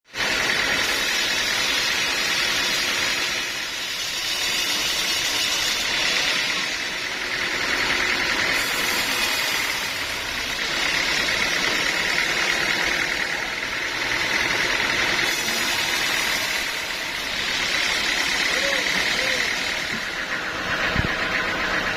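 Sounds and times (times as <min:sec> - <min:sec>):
sawmill machinery whine: 0:00.0 - 0:21.9.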